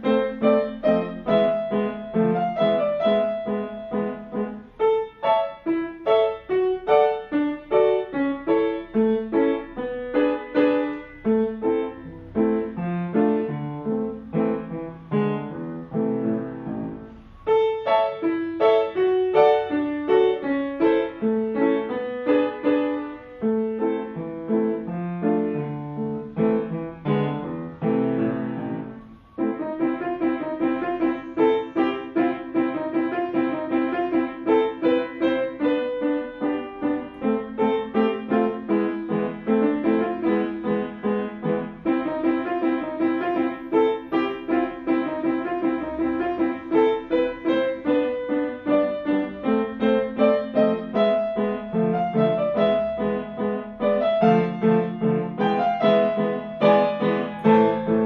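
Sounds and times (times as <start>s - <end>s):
grand piano playing fast: 0.0s - 58.0s.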